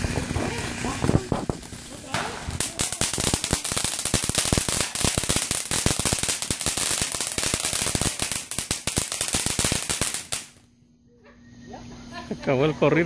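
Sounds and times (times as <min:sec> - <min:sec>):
firework fountain hissing: 0:00.0 - 0:10.6
firework crackling: 0:00.0 - 0:10.7.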